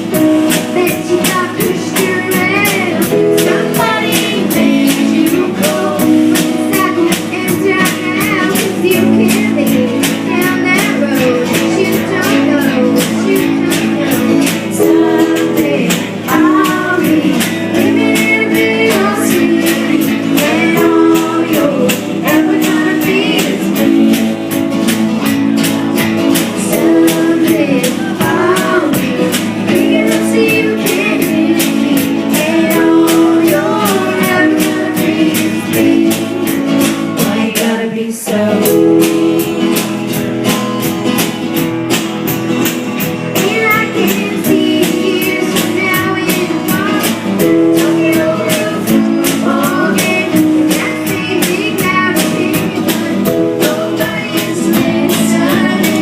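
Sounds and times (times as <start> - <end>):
woman singing: 0.0 - 24.4, 26.3 - 40.2, 43.4 - 56.0
strummed guitar with beat: 0.0 - 56.0.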